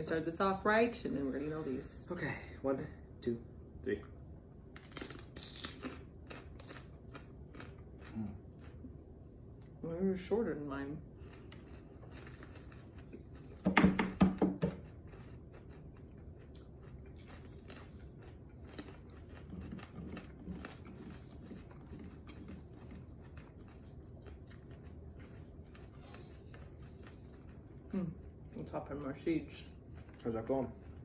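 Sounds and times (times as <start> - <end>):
people chewing crunchy peppers: 4.6 - 9.8, 11.1 - 31.0.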